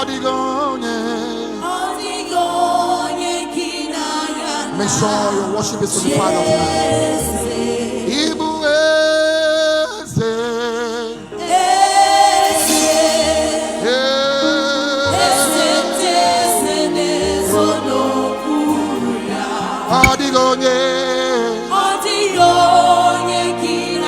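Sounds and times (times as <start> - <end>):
choir singing gospel song: 0.0 - 24.0.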